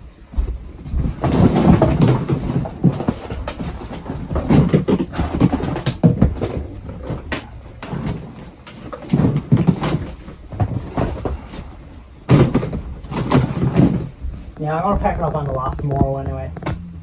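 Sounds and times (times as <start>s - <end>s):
objects clattering and knocking: 0.4s - 17.0s.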